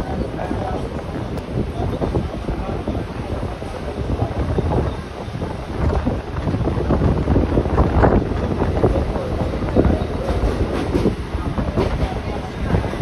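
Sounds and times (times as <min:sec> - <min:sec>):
train running on rails: 0:00.0 - 0:13.0
wind buffeting microphone: 0:00.0 - 0:13.0.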